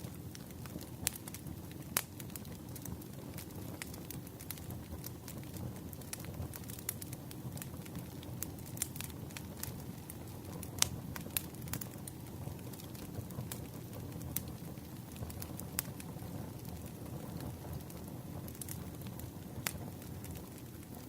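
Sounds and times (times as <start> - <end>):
campfire flames rumbling: 0.0 - 21.0
wood crackling and popping: 0.0 - 21.0.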